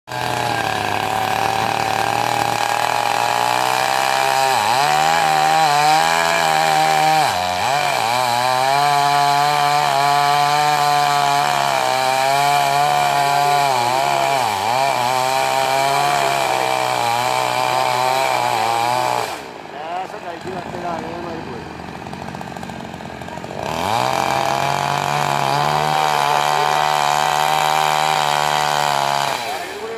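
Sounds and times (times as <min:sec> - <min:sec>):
chainsaw cutting wood: 0:00.1 - 0:29.9.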